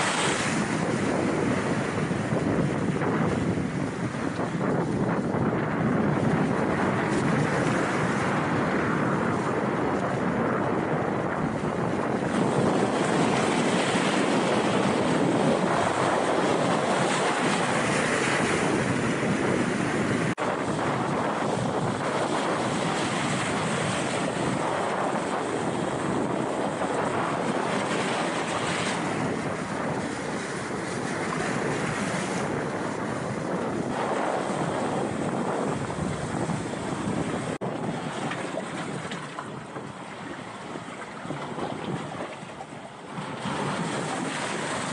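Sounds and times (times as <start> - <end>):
surf breaking over rocks: 0.0 - 44.9
wind buffeting microphone: 0.0 - 44.9.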